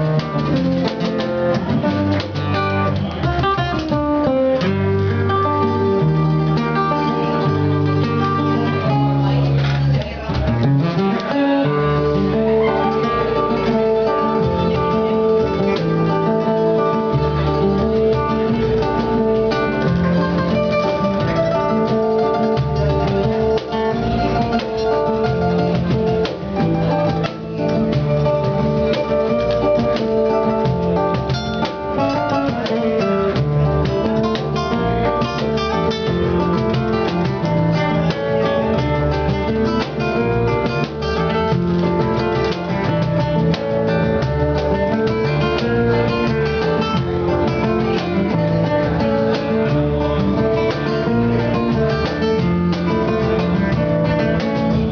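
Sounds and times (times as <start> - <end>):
flamenco-style acoustic guitar: 0.0 - 54.9.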